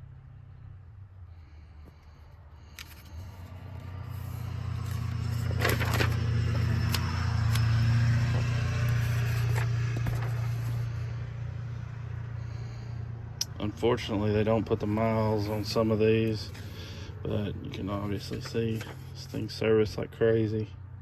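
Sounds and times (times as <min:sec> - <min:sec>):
motor vehicle passing: 0:00.2 - 0:20.0.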